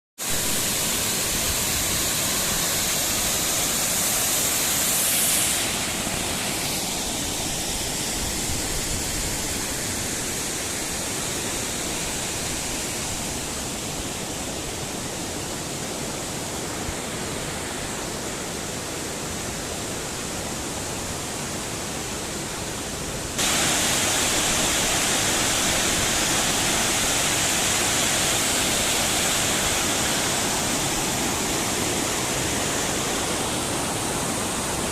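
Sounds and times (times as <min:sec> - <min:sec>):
stream rushing over waterfalls: 0:00.2 - 0:34.9.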